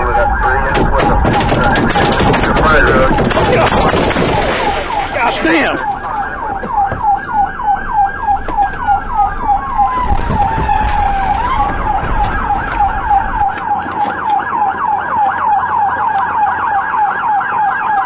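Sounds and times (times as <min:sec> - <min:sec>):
engine and road rumble: 0:00.0 - 0:18.0
police siren yelping: 0:00.0 - 0:18.0
siren wailing: 0:00.0 - 0:18.0.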